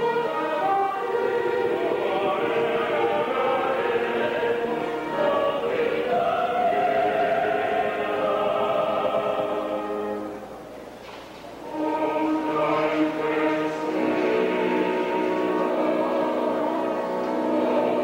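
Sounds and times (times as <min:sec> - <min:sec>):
choir singing held chords: 0:00.0 - 0:10.7, 0:11.6 - 0:18.0.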